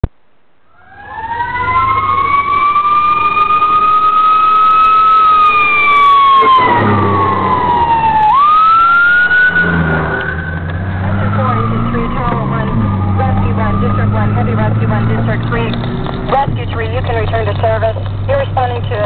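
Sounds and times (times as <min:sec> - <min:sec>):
low engine noise: 0:00.5 - 0:19.0
fire engine sirens wailing: 0:00.7 - 0:19.0.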